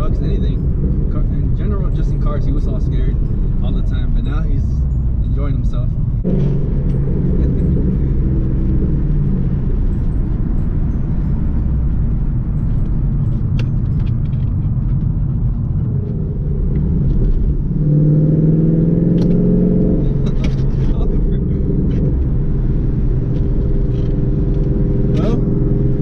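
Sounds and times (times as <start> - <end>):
car engine rumble from cabin: 0.0 - 26.0.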